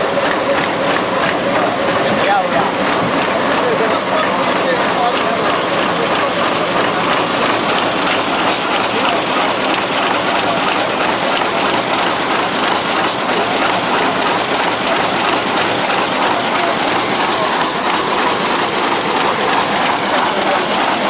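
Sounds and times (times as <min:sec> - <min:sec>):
sewing machine clattering: 0:00.0 - 0:21.0.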